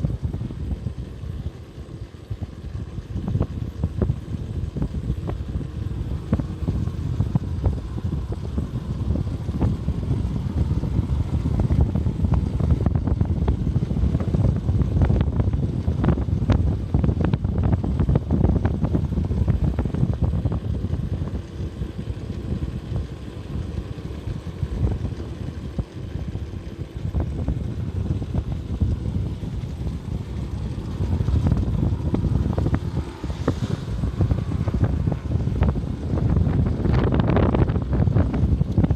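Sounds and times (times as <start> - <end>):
vehicle engine and road noise: 0.0 - 38.9
wind buffeting microphone: 0.0 - 38.9.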